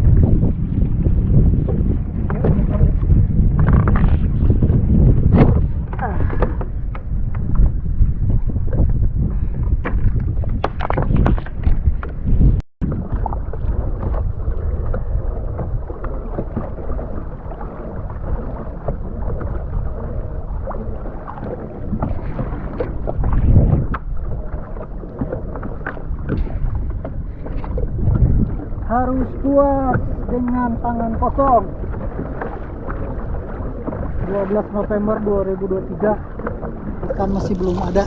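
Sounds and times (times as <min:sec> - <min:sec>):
water sloshing around kayak: 0:00.0 - 0:38.0
wind buffeting microphone: 0:00.0 - 0:38.0.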